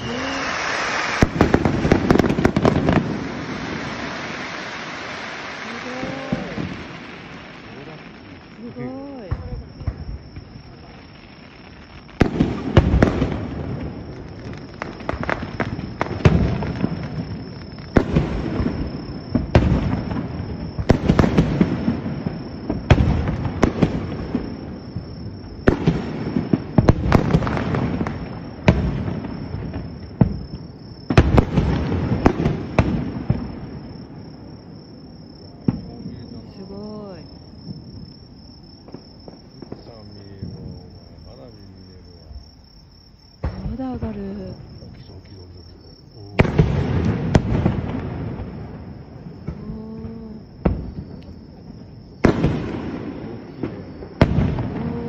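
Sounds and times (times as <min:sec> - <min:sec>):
fireworks bangs with rumbling echo: 0:00.0 - 0:55.0.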